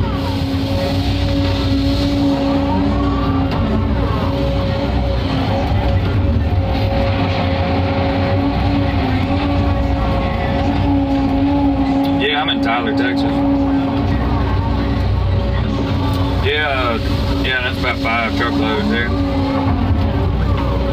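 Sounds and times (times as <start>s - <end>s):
excavator engine and hydraulics: 0.0s - 20.9s
faint wavering tones: 0.0s - 20.9s.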